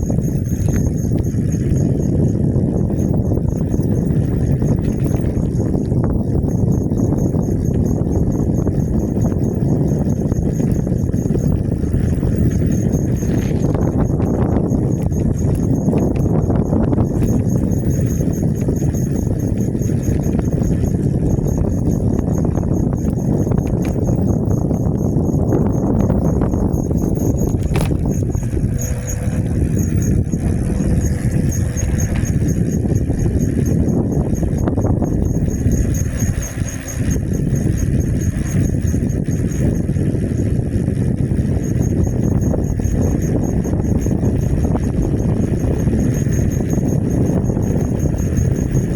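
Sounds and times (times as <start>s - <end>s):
e-bike rattling: 0.0s - 48.9s
faint high ticking: 0.0s - 48.9s
faint pulsing high whine: 0.0s - 48.9s
wind rumble on microphone: 0.0s - 48.9s.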